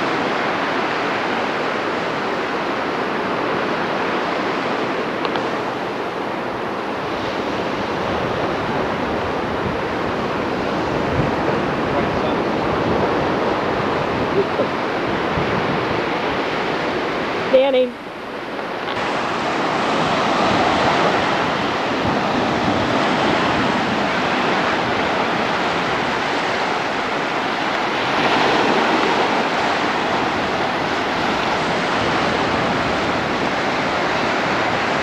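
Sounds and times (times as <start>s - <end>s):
waves: 0.0s - 35.0s
wind: 0.0s - 35.0s.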